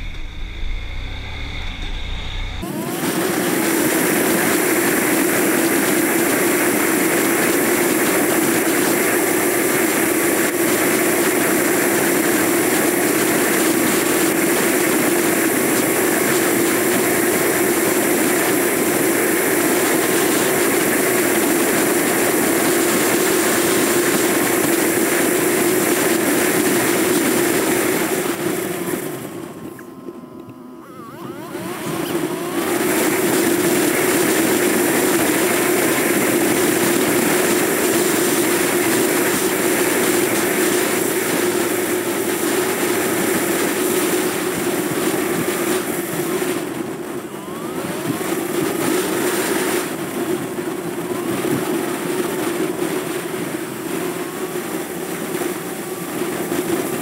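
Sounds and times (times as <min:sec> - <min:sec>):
motorcycle engine drone: 0:00.0 - 0:57.0.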